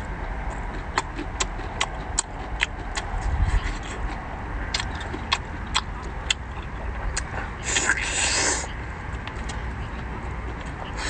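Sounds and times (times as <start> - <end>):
low steady rumble: 0.0 - 11.0
person chewing garlic: 0.0 - 11.0.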